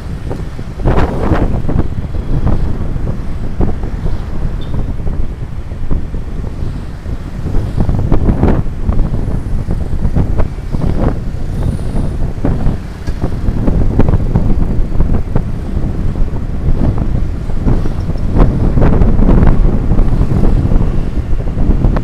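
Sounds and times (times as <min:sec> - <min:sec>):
motorcycle engine and road noise: 0:00.0 - 0:22.0
wind buffeting microphone: 0:00.0 - 0:22.0.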